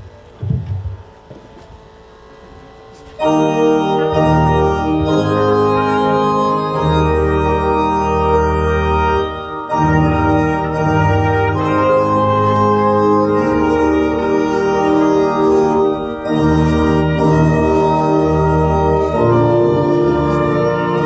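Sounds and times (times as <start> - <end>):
electronic organ playing chords: 0.0 - 21.0.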